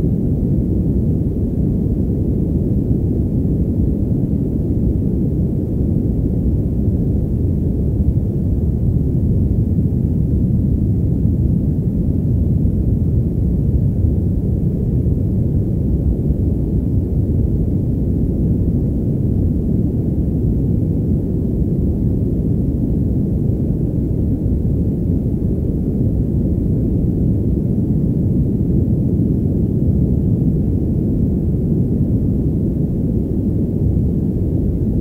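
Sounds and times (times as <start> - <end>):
muffled white noise rush: 0.0 - 35.0.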